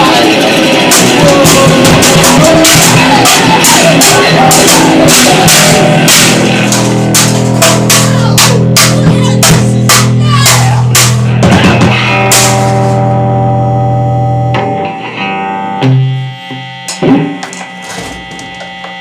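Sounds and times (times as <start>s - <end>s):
pounding drum kit: 0.0s - 13.7s, 15.8s - 19.0s
noise rock with distorted guitar: 0.0s - 19.0s.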